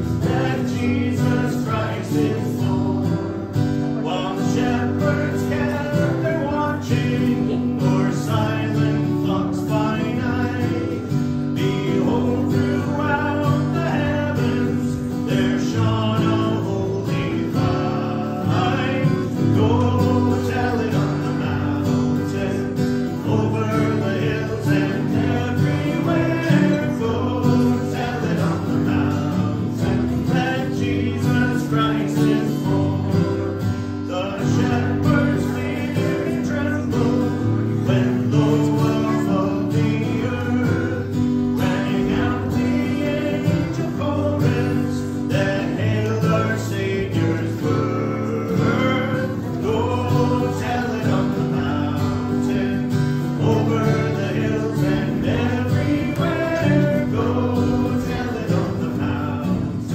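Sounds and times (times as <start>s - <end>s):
acoustic guitar strumming: 0.0s - 59.9s
person singing: 0.0s - 59.9s.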